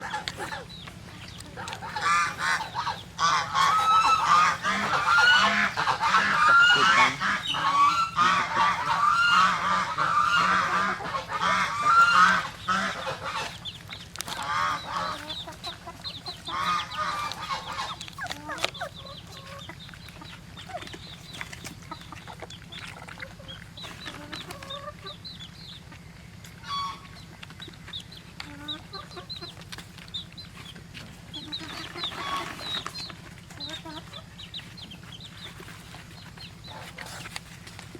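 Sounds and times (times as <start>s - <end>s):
animal calls: 0.0s - 37.9s.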